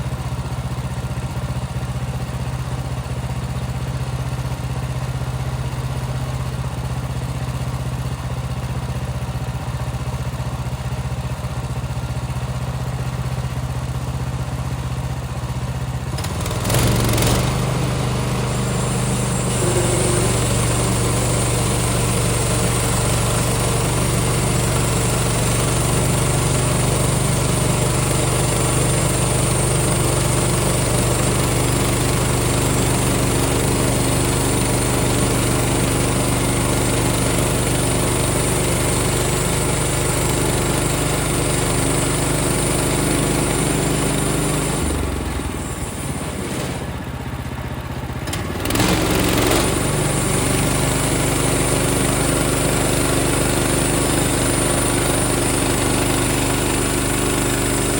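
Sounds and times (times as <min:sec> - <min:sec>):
small gas engine running: 0:00.0 - 0:57.9.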